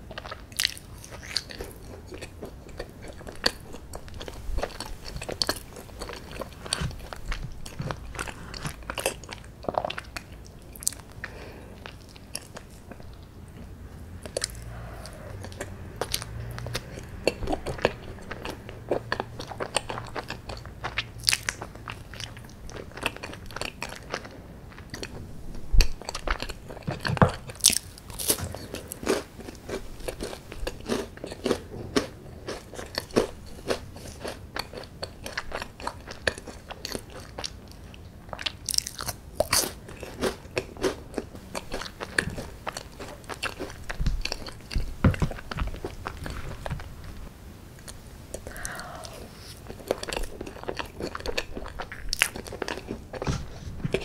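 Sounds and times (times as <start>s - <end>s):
person chewing: 0.0s - 47.2s, 47.8s - 54.0s.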